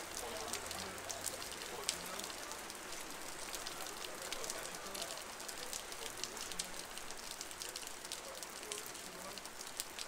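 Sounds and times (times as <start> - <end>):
raindrops splashing: 0.0 - 10.0.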